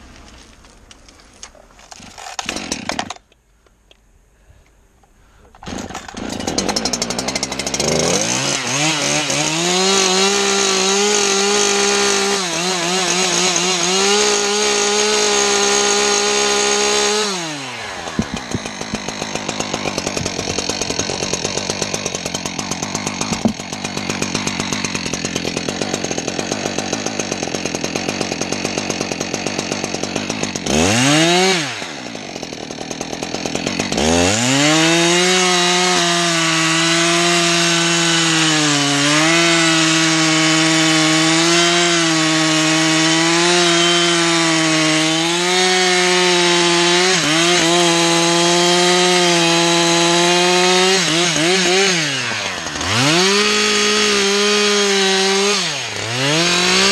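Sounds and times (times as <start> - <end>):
chainsaw running: 1.8 - 3.2, 5.5 - 56.9.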